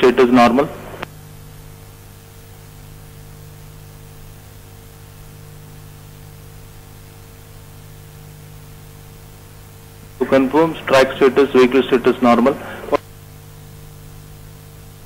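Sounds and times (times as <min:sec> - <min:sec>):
radio line hiss: 0:00.0 - 0:01.2, 0:02.0 - 0:15.0
electrical mains hum: 0:00.0 - 0:15.0.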